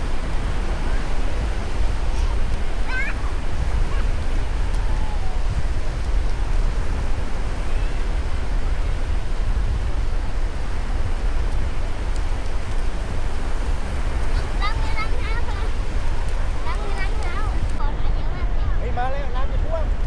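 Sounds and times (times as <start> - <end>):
sea surf washing on beach: 0.0 - 20.0
wind buffeting microphone: 0.0 - 20.0.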